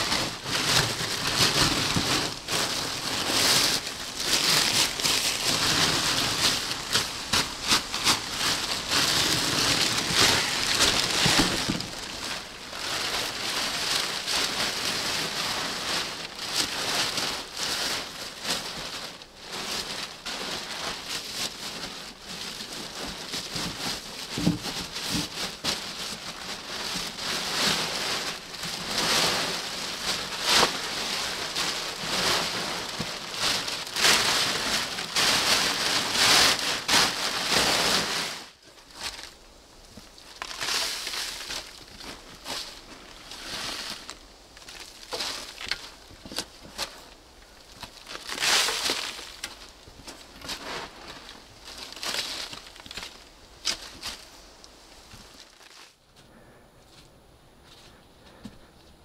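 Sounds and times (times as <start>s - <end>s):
plastic tarpaulin rustling: 0.0s - 56.6s.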